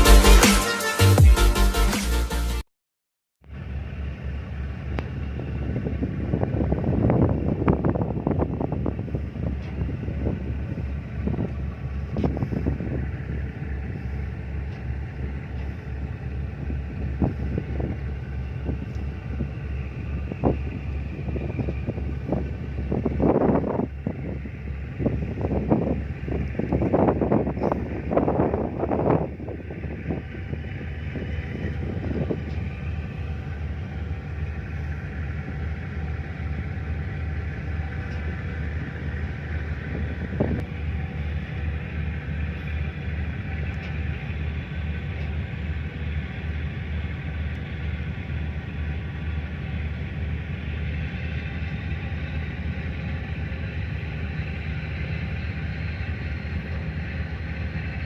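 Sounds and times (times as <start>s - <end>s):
boat engine rumbling: 3.4s - 58.0s.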